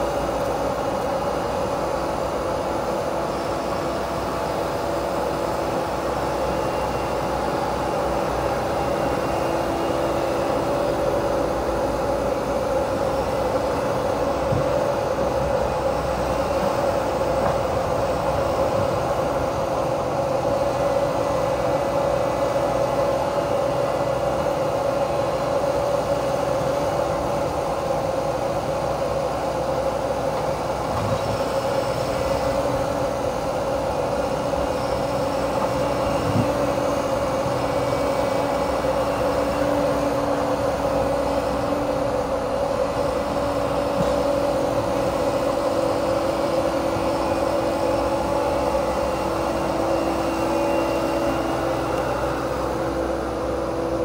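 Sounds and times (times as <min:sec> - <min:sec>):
machine drone with whine: 0:00.0 - 0:54.0.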